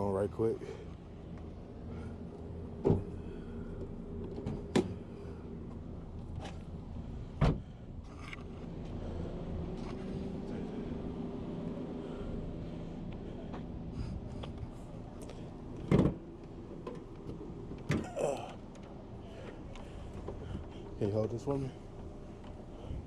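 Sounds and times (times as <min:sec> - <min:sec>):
low hum: 0:00.6 - 0:21.0.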